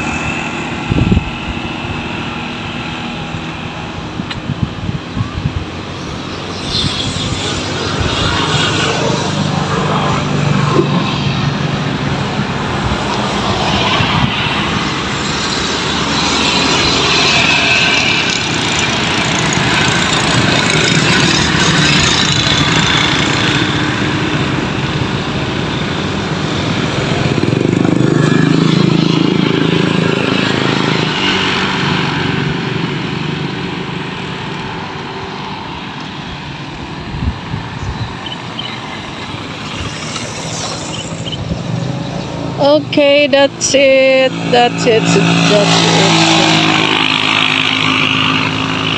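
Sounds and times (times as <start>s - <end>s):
highway traffic passing: 0.0s - 48.9s.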